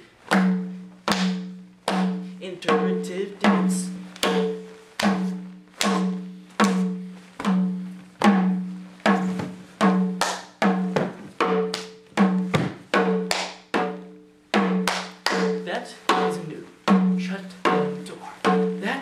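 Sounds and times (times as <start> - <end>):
low ringing percussion beat: 0.2 - 19.0.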